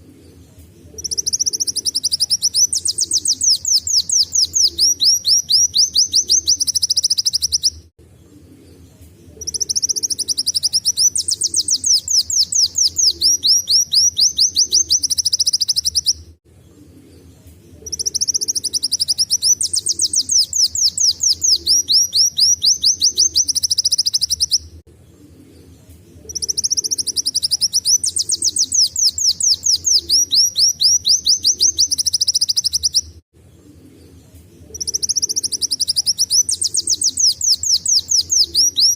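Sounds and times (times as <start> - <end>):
bird singing fast high trills: 1.0 - 7.9, 9.4 - 16.2, 17.8 - 24.7, 26.3 - 33.2, 34.7 - 38.9.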